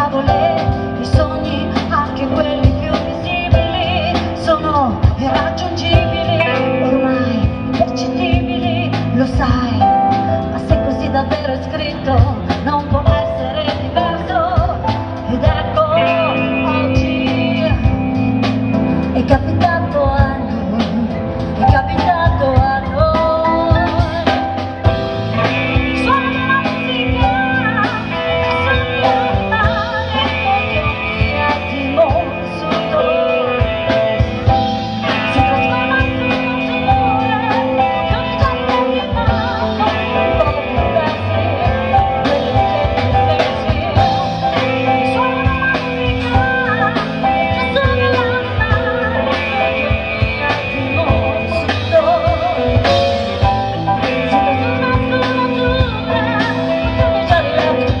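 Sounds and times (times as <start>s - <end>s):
live band playing: 0.0s - 58.0s
woman singing into microphone: 0.0s - 58.0s.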